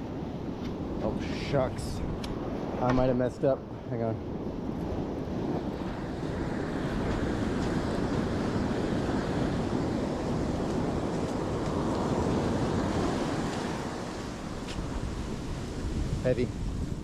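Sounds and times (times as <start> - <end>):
ocean surf breaking on beach: 0.0 - 17.0
wind on microphone: 0.0 - 17.0.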